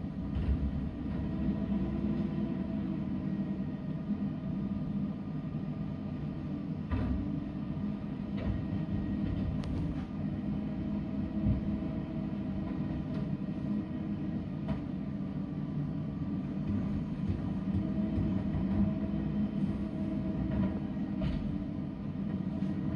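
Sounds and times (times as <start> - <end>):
garbage truck engine running: 0.0 - 22.9.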